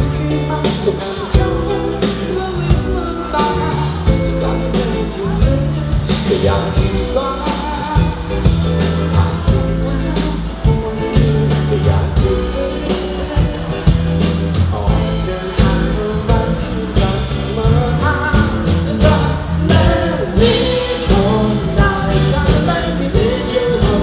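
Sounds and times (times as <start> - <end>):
live band and singer over pa: 0.0 - 24.0.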